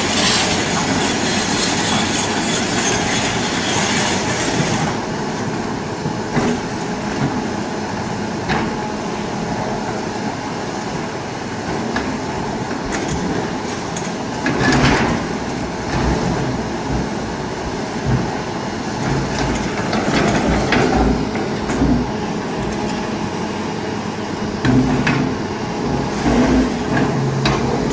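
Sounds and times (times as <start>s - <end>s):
excavator running under load: 0.0s - 27.9s.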